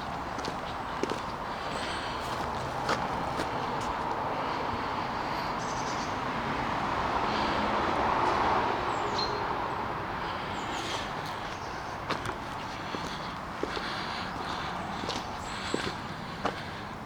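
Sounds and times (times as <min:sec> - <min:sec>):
distant vehicle passing: 0:00.0 - 0:17.0.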